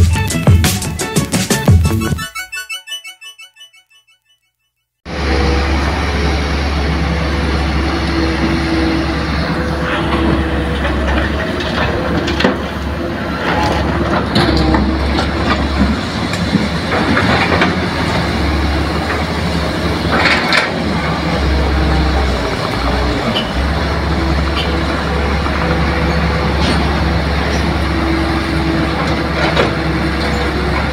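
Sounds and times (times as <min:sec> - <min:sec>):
excavator diesel engine running: 0:05.1 - 0:30.9.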